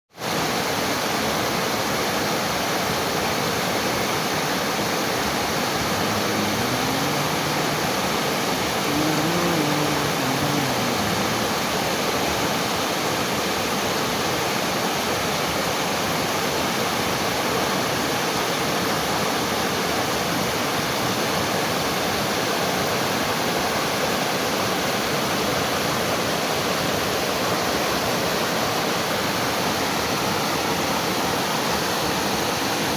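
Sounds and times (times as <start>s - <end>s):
rushing water: 0.1s - 32.9s.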